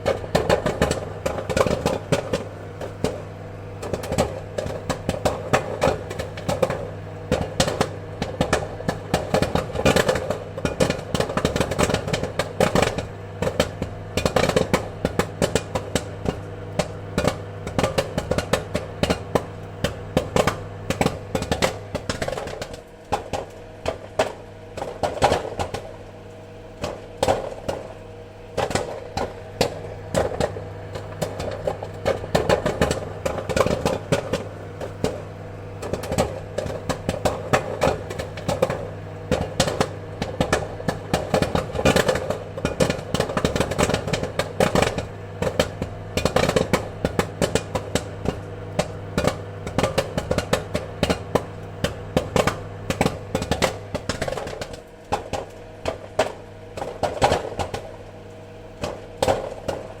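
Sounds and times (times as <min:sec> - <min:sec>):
popcorn popping: 0:00.0 - 1:00.0.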